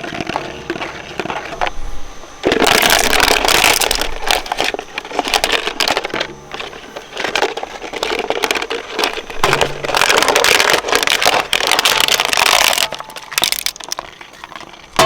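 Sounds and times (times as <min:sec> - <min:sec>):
shredder crunching: 0:00.0 - 0:15.0.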